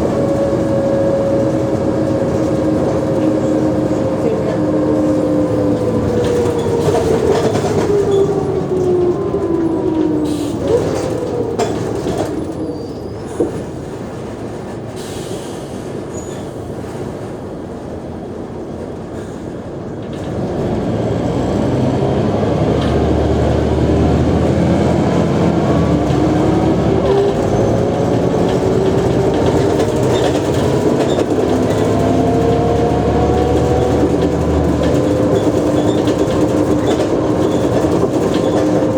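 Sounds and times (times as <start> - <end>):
bus drivetrain whine: 0.0 - 38.9
bus engine accelerating: 0.0 - 38.9.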